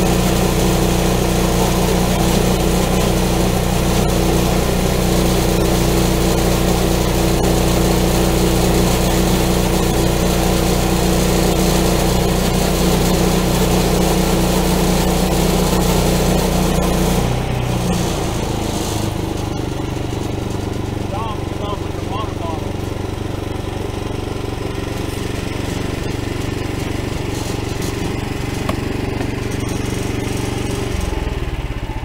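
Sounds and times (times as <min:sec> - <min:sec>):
saw cutting through log: 0:00.0 - 0:32.0
sawmill engine running: 0:00.0 - 0:32.0.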